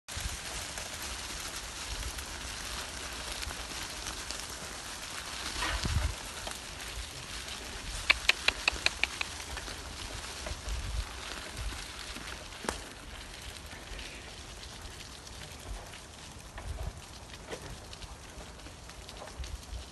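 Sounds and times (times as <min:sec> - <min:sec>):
forest ambience rustling hiss: 0:00.1 - 0:16.3.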